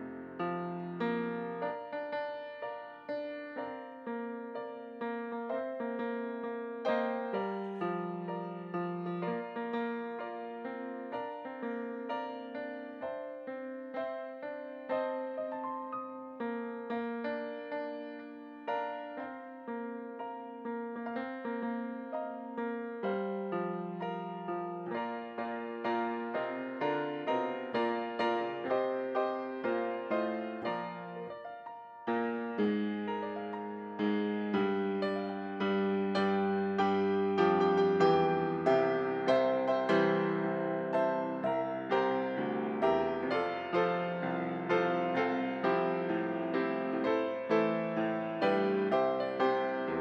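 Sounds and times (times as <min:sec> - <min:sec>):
slow gentle solo piano: 0:00.0 - 0:50.0.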